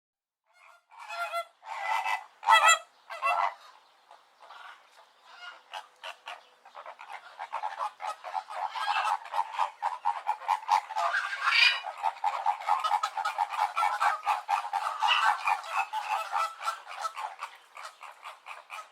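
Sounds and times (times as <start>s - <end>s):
flamingos honking: 0.5s - 18.9s.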